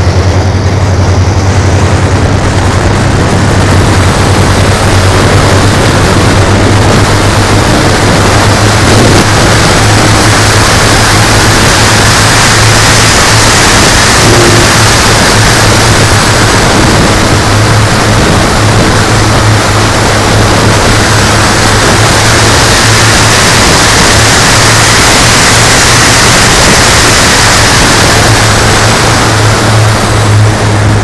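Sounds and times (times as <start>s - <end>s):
model airplane engines droning: 0.0s - 31.0s.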